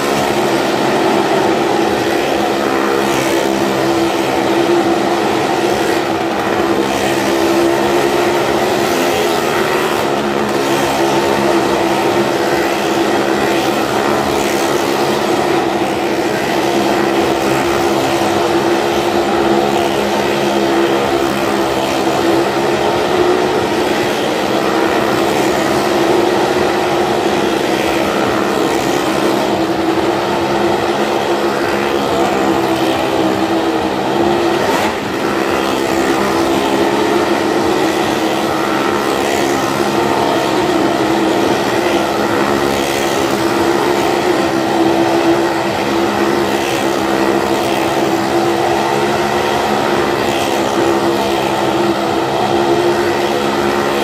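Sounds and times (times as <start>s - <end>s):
car and motorcycle engines droning: 0.0s - 54.0s.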